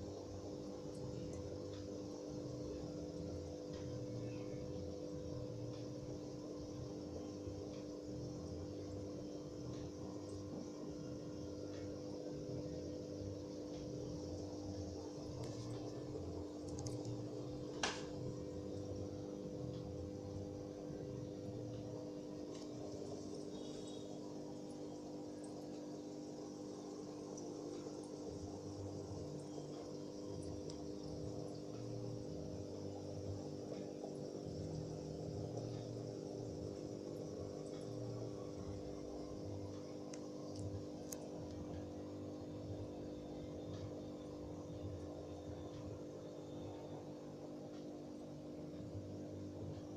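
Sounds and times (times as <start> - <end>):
aquarium air pump hum: 0.0 - 49.9
faint ticks: 0.1 - 49.9.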